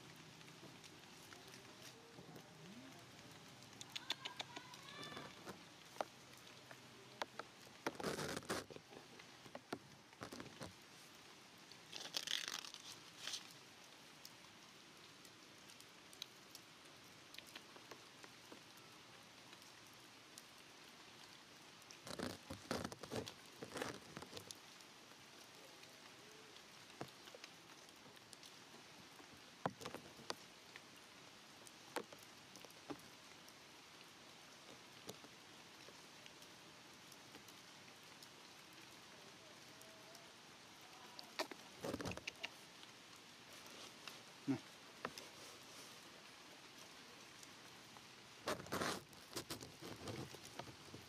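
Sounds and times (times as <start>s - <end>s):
soft crackles and taps: 0.0s - 13.6s, 15.2s - 38.6s, 40.9s - 46.0s, 47.3s - 51.0s
steady low hiss: 0.0s - 51.0s.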